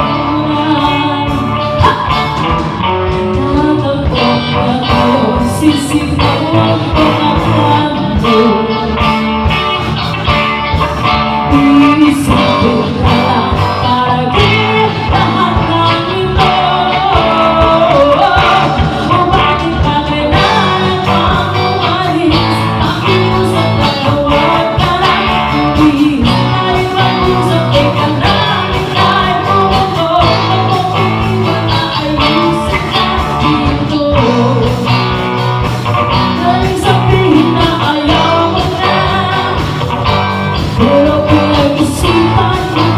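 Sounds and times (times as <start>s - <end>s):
person singing: 0.0s - 9.3s, 11.4s - 35.3s, 36.1s - 42.9s
bass guitar: 0.0s - 42.9s
drums with steady beat: 0.0s - 42.9s
electric guitar: 0.0s - 42.9s.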